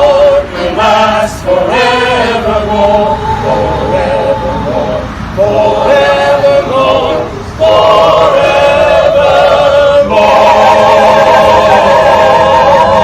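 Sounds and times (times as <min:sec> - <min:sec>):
church choir singing: 0:00.0 - 0:13.0
man singing with vibrato: 0:00.0 - 0:13.0.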